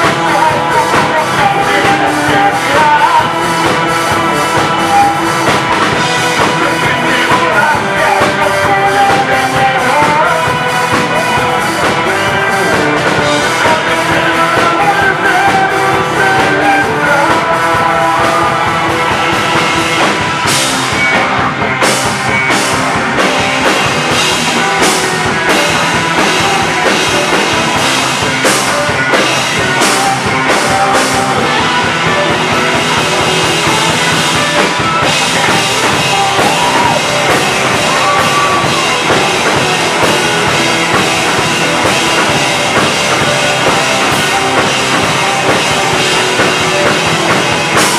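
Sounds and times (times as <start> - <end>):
bass guitar: 0.0 - 47.9
drum kit: 0.0 - 47.9
electric guitar: 0.0 - 47.9.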